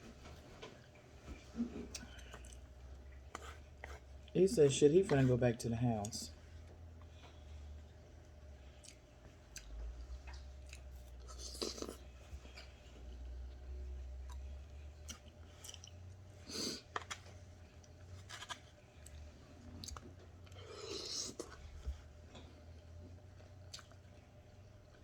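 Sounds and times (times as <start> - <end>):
person chewing food: 0.6 - 4.3, 6.5 - 25.0.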